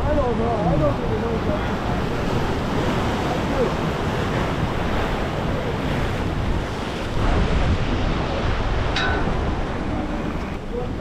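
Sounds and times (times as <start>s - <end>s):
surf breaking against jetty: 0.0s - 11.0s
wind buffeting microphone: 0.0s - 11.0s.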